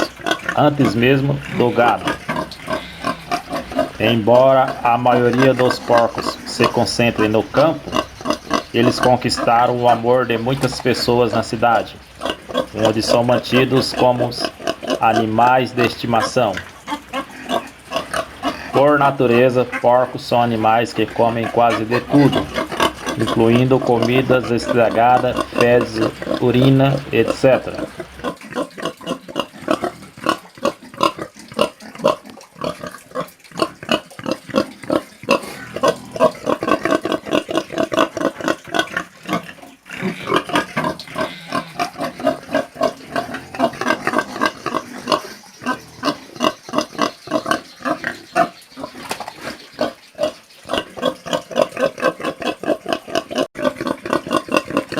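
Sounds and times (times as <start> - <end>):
pig grunting: 0.0 - 54.9.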